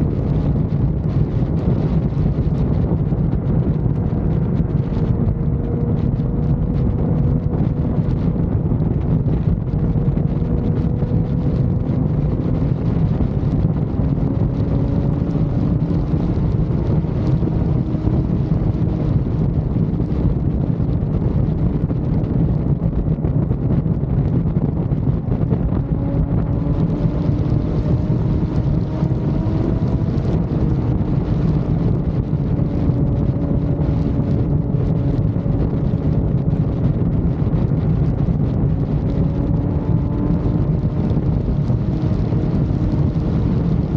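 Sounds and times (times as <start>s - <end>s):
motorcycle engine hum: 0.0s - 43.9s
wind buffeting microphone: 0.0s - 43.9s.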